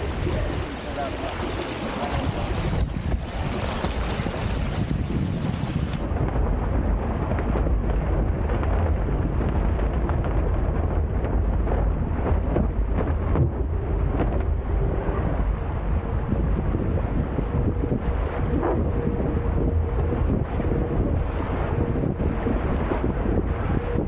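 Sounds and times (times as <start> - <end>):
water rushing against hulls: 0.0 - 24.0
wind buffeting microphone: 0.0 - 24.0.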